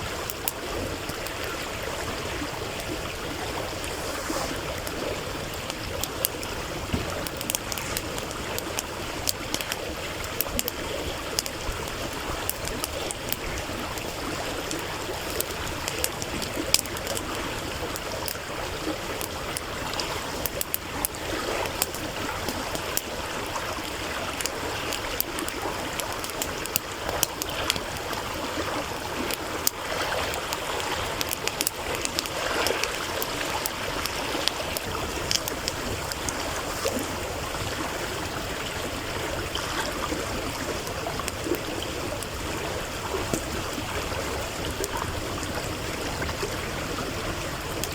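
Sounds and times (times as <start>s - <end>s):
campfire crackling and popping: 0.0s - 47.9s
stream trickling over stones: 0.0s - 47.9s.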